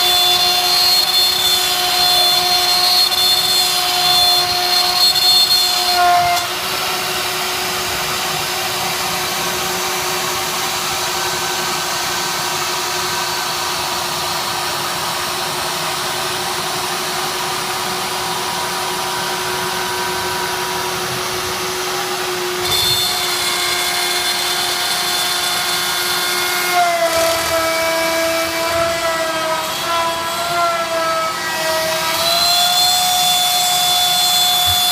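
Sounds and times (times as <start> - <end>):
cnc machine motor whine: 0.0 - 34.9.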